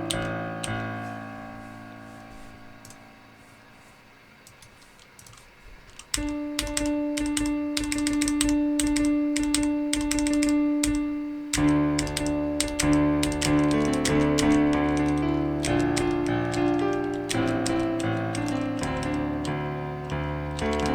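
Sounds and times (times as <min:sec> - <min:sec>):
keyboard keys clicking: 0:00.0 - 0:01.1, 0:02.4 - 0:03.0, 0:04.4 - 0:20.9
virtual piano notes: 0:00.0 - 0:20.9.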